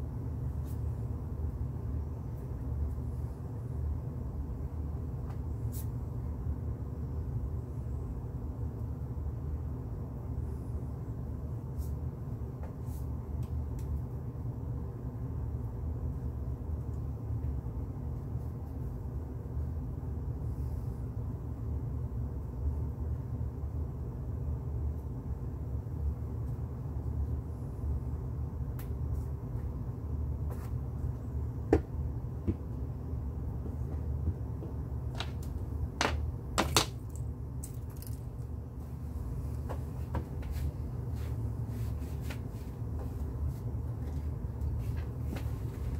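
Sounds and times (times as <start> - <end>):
low room hum: 0.0 - 45.9.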